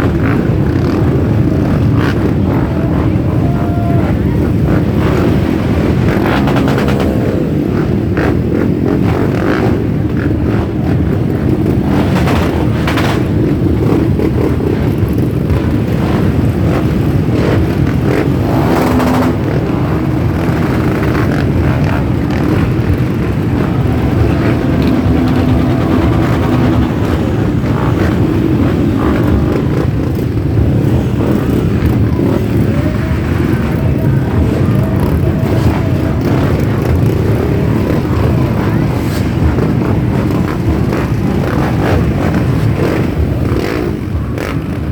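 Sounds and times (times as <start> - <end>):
motorcycle engines revving: 0.0 - 44.9
motorcycle engines running: 0.0 - 44.9.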